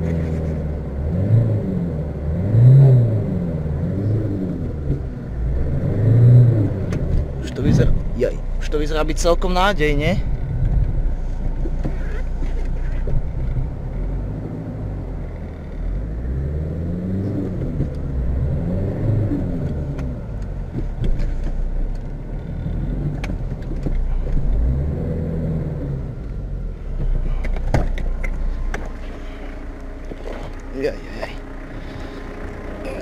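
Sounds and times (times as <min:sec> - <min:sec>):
diesel car engine revving: 0:00.0 - 0:33.0.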